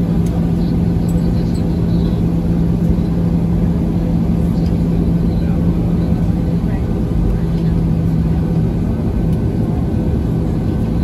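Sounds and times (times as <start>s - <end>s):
jet engines idling in cabin: 0.0s - 11.0s.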